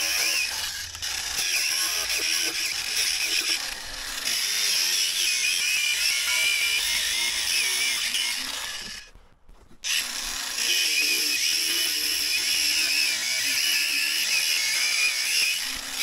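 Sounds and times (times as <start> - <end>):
angle grinder cutting tyre: 0.0 - 9.1, 9.9 - 16.0.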